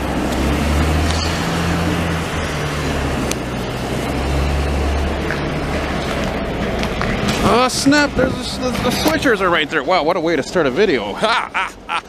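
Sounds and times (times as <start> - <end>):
broad rushing noise: 0.0 - 12.0
diesel engine droning: 0.0 - 12.0.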